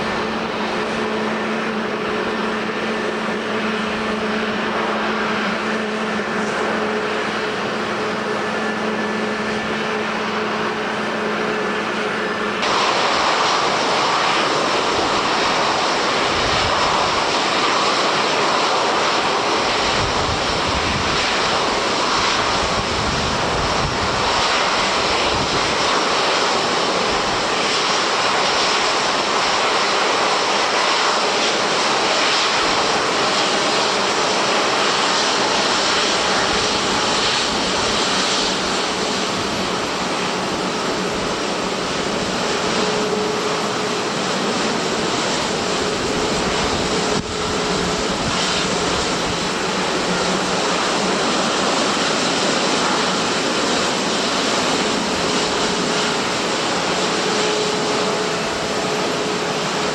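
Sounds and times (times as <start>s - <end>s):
airliner engines running: 0.0s - 59.9s.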